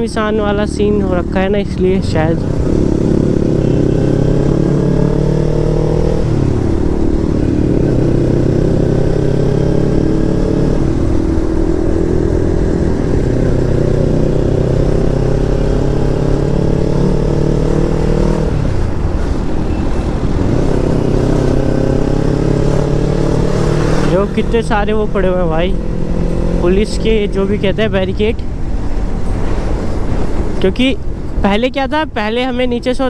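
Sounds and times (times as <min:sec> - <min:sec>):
motorcycle engine at speed: 0:00.0 - 0:30.6.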